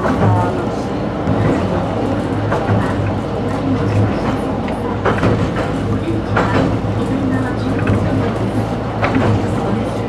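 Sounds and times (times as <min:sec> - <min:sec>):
tram rolling rumble: 0:00.0 - 0:10.0.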